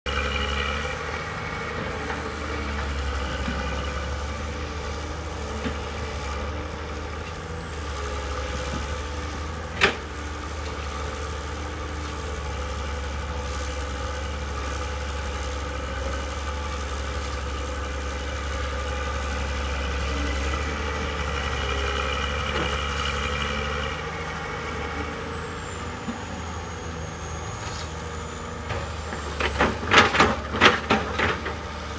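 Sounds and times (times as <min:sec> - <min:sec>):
excavator diesel engine running: 0:00.1 - 0:31.9
hydraulic whine: 0:00.1 - 0:31.9.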